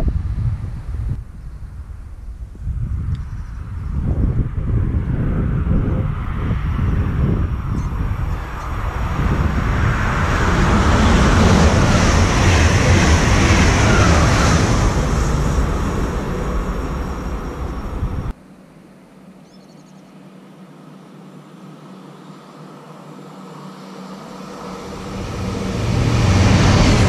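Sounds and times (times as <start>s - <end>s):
open-air background: 0.0s - 27.0s
train passing at speed: 1.7s - 18.4s, 20.8s - 27.0s.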